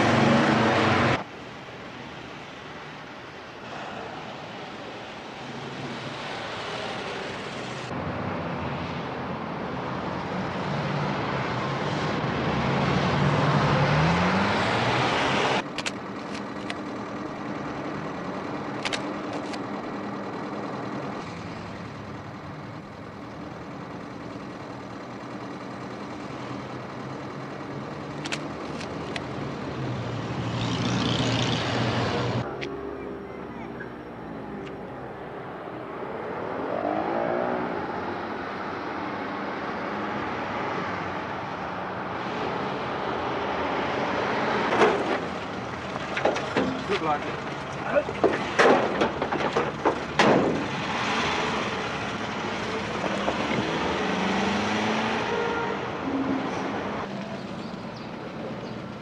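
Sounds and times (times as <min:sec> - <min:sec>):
car engine accelerating: 0:10.6 - 0:59.0.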